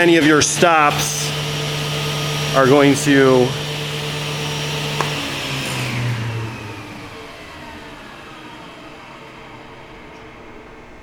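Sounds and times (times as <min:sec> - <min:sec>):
saw blade whine falling in pitch: 0:00.4 - 0:11.0.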